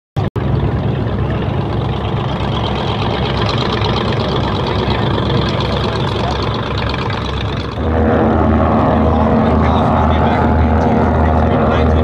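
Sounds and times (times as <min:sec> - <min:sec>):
propeller engines droning: 0:00.3 - 0:12.0.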